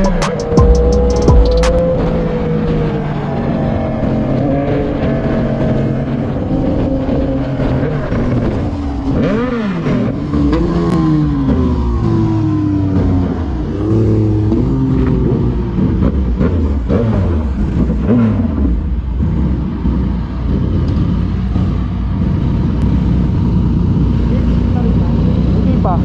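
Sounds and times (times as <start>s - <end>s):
low engine hum: 0.0s - 26.0s
motorcycle engines revving: 0.0s - 26.0s.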